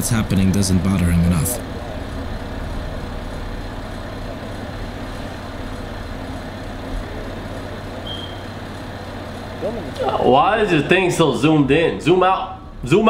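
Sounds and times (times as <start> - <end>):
low rumbling drone with hiss: 0.0 - 13.0.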